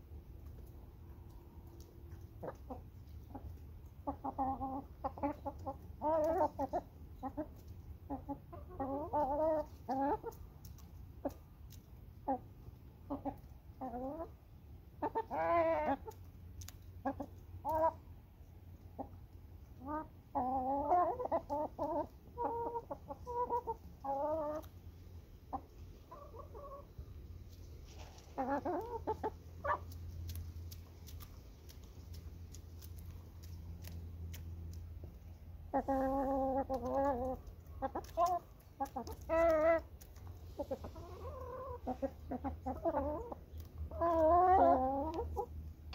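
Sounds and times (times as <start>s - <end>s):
hens clucking: 0.6s - 18.0s, 18.8s - 45.9s.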